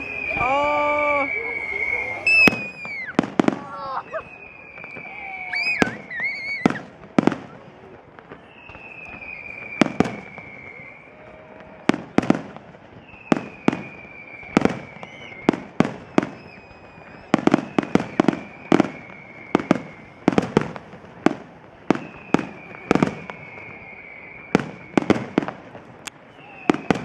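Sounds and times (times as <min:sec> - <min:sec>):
fireworks bursting in bangs: 0:00.0 - 0:27.0
high firework whistle: 0:00.0 - 0:27.0.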